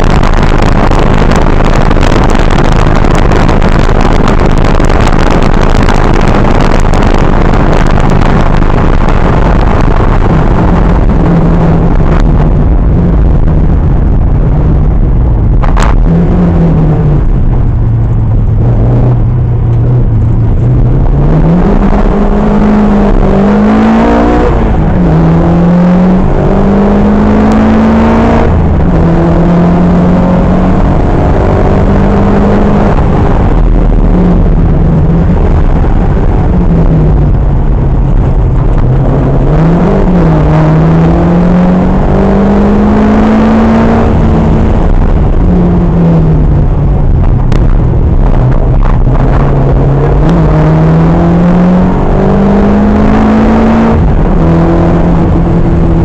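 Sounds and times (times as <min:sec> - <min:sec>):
car engine revving through gears: 0:00.0 - 0:56.0
road and wind noise: 0:00.0 - 0:56.0.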